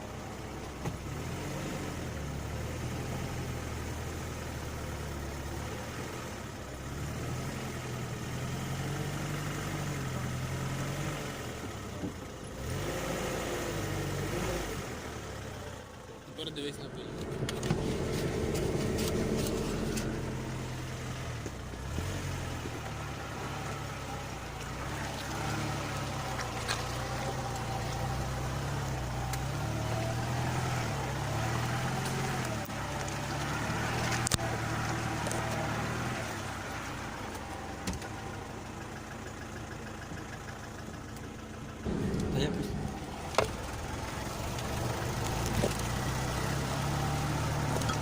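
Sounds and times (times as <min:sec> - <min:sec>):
car engine running under load: 0:00.0 - 0:48.0.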